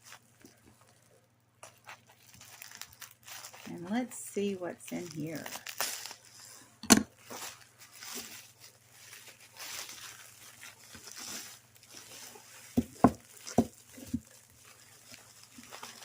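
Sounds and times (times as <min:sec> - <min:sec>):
packing material rustling: 0:00.0 - 0:06.6, 0:07.2 - 0:16.0.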